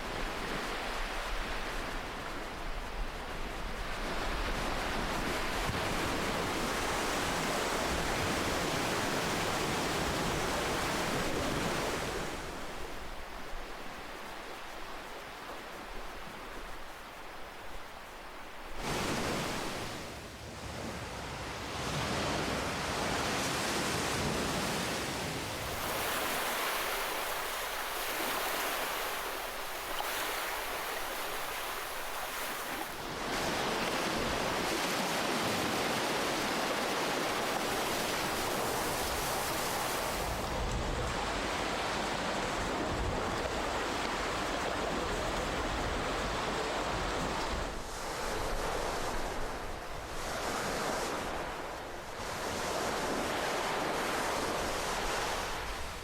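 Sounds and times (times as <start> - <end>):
ocean waves washing on shore: 0.0 - 56.0.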